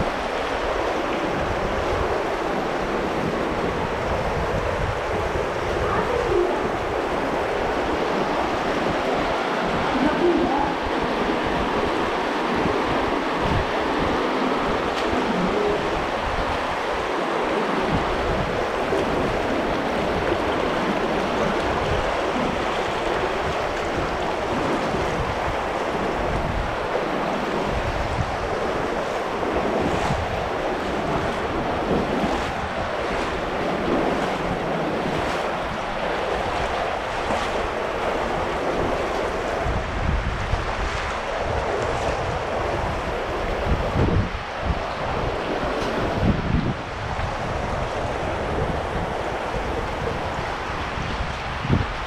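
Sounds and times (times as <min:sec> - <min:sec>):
stream flowing over rocks: 0:00.0 - 0:52.0.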